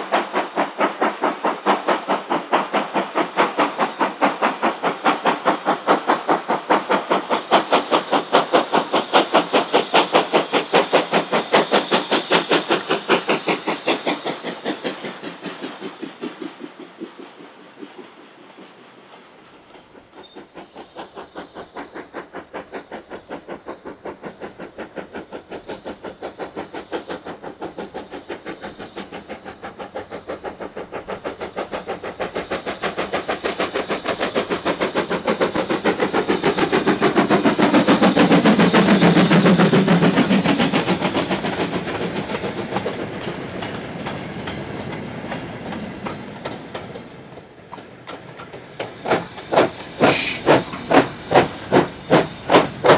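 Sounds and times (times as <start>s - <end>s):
steam locomotive exhaust beats: 0.0s - 52.9s.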